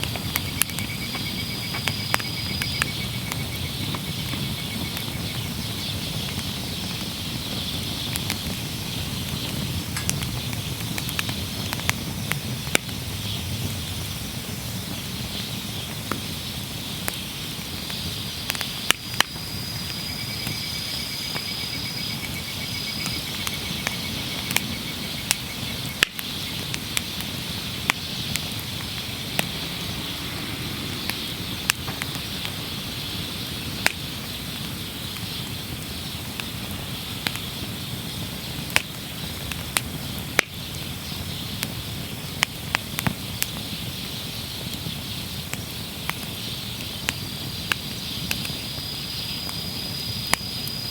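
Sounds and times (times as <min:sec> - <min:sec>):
insect trill: 0:00.0 - 0:11.5, 0:13.0 - 0:39.5, 0:45.0 - 0:50.9
wood fire crackling: 0:00.0 - 0:50.9.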